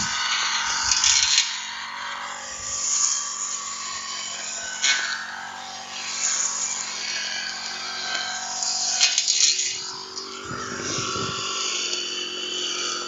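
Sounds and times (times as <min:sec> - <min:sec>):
brush cutter running: 0:00.0 - 0:13.0.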